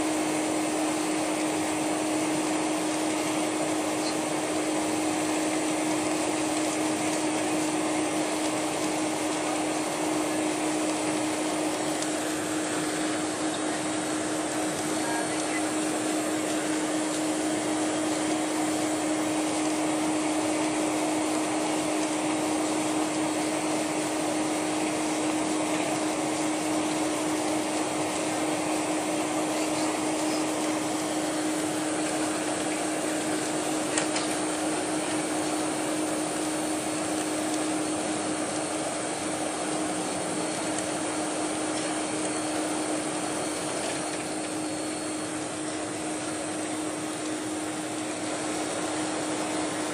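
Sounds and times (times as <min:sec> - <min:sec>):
jet engines humming: 0:00.0 - 0:49.9.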